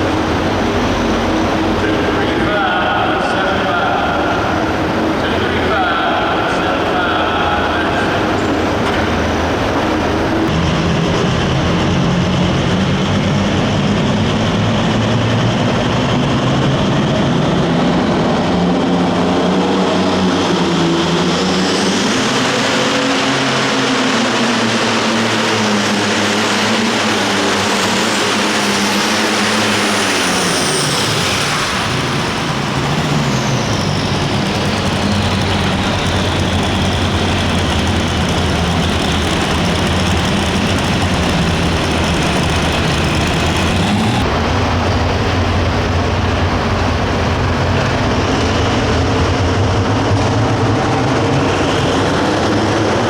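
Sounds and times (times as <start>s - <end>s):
diesel engine at full throttle: 0.0s - 53.0s
high turbo whine: 0.0s - 53.0s.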